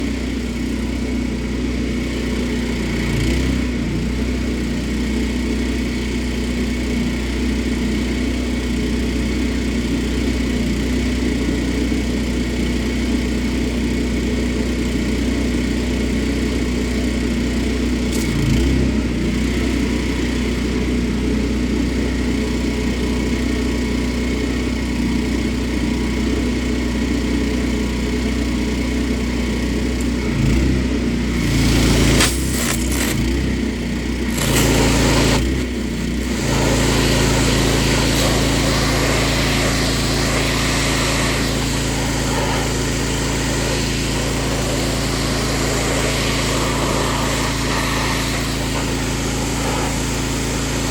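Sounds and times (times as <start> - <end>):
pressure washer engine running: 0.0 - 50.9.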